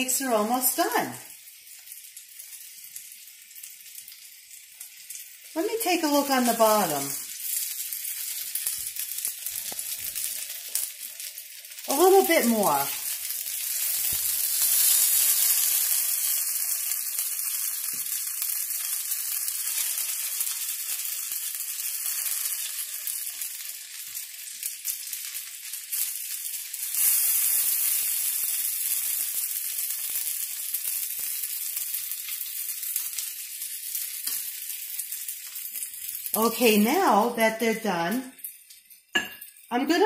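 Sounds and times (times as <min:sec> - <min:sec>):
pancakes sizzling in oil: 0:00.0 - 0:40.0.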